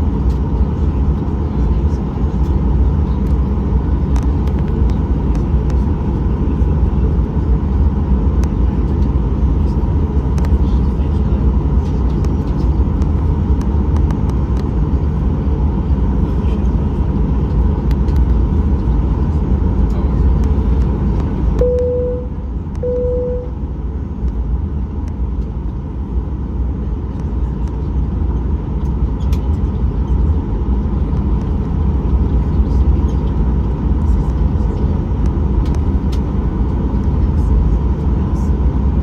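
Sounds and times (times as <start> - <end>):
aircraft engine rumble in cabin: 0.0 - 39.0.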